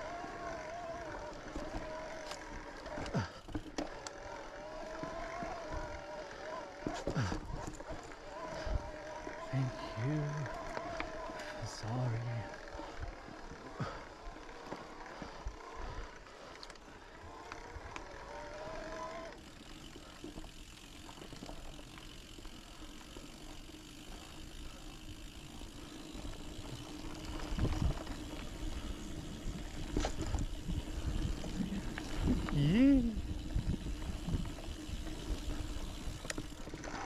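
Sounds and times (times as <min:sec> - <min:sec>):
bike tyres crunching on trail: 0:00.0 - 0:37.0.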